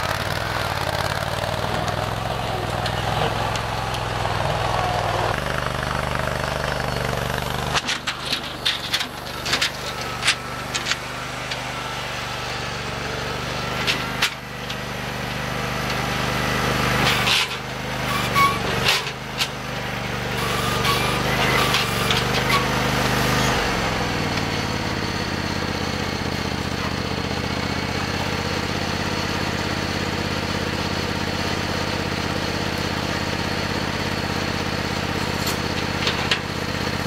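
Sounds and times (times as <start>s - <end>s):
garden tractor engine running: 0.0s - 37.0s.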